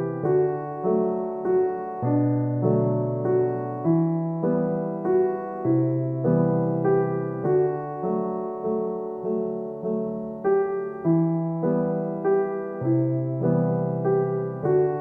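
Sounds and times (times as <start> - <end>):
gentle piano piece: 0.0 - 15.0.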